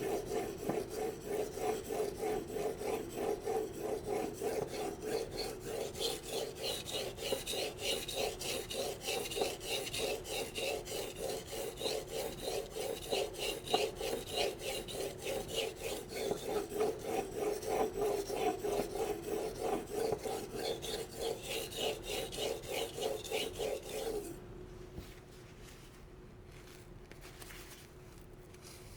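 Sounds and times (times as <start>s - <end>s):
knife stroked on whetstone: 0.0s - 24.4s.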